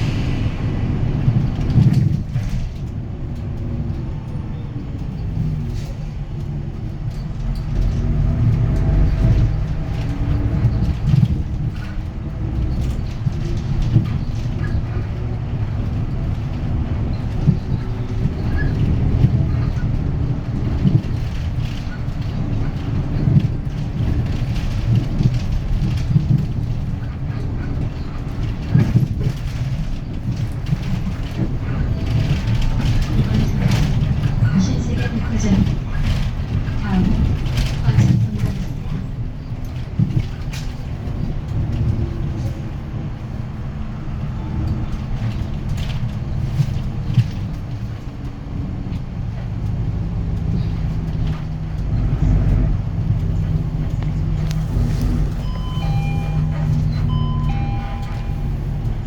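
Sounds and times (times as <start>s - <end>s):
bus diesel engine rumble: 0.0s - 59.0s
road noise: 0.0s - 59.0s.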